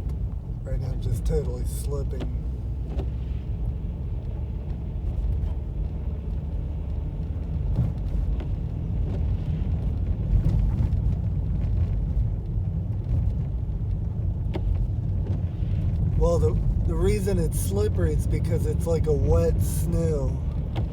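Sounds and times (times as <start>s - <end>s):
engine and tyres rumbling: 0.0s - 20.9s.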